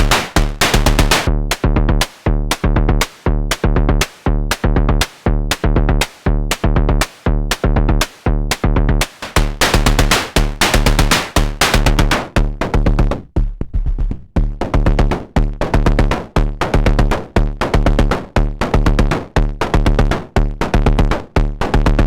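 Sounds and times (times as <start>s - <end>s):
synthesizer drum pattern: 0.0s - 22.0s.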